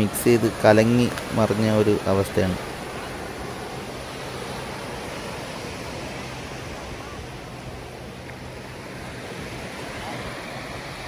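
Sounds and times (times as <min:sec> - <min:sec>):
small waves washing up beach: 0:00.0 - 0:11.0.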